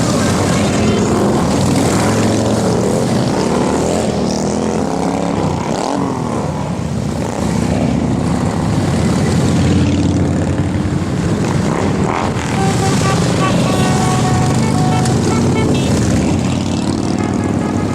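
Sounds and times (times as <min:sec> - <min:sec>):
motorcycle engines running: 0:00.0 - 0:17.9.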